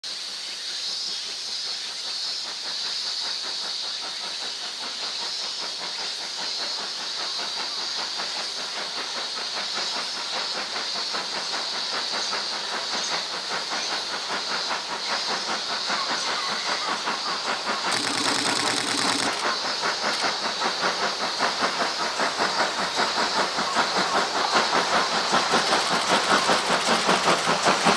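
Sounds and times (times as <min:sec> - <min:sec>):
steam locomotive exhaust beats: 0:02.0 - 0:27.9.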